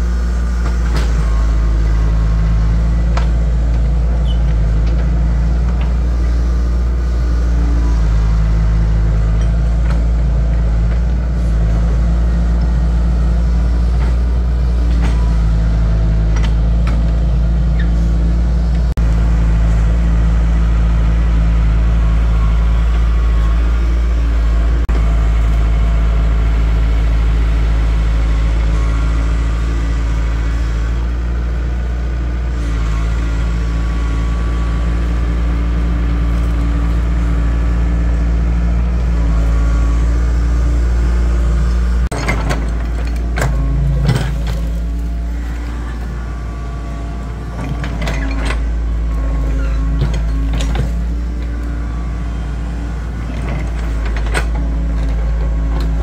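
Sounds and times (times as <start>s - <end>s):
heavy engine running: 0.0s - 56.0s.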